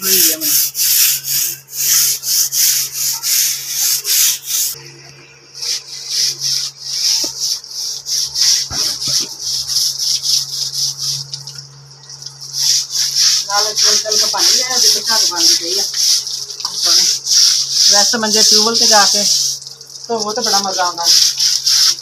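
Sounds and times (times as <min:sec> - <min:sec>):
scrub brush scrubbing rope strings: 0:00.0 - 0:04.8, 0:05.6 - 0:11.6, 0:12.2 - 0:22.0.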